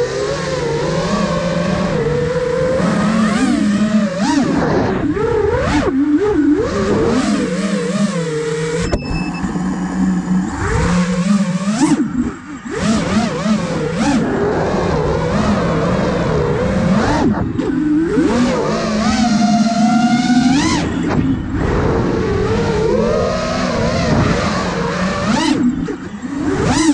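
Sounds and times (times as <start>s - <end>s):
drone motors whining: 0.0s - 26.9s.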